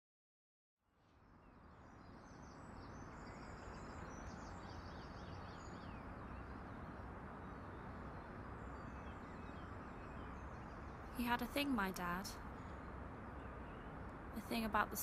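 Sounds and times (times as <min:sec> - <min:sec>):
low ambient rush: 0:00.8 - 0:15.0
small birds chirping and trilling: 0:01.2 - 0:15.0.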